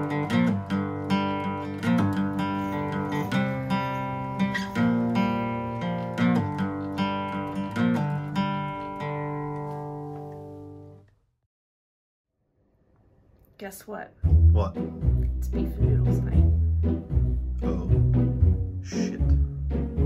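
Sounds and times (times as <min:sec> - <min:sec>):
acoustic guitar strumming chords: 0:00.0 - 0:11.0, 0:14.3 - 0:20.0.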